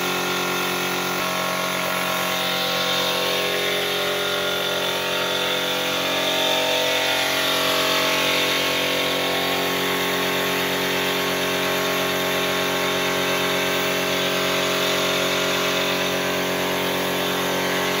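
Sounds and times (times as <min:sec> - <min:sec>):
air compressor humming: 0:00.0 - 0:18.0
paint spray gun hissing: 0:00.0 - 0:18.0.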